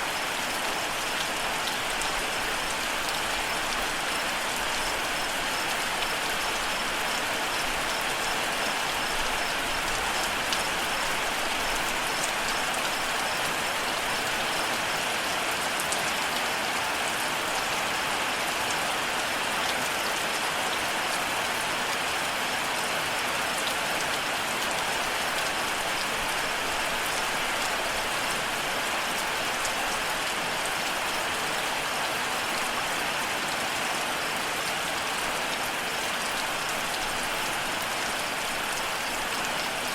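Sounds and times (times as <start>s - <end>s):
rain pattering: 0.0s - 22.4s, 23.0s - 39.9s.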